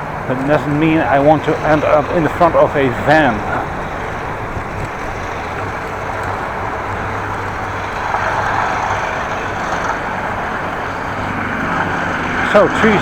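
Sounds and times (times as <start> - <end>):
road traffic noise: 0.0 - 13.0
wind rush: 0.0 - 13.0.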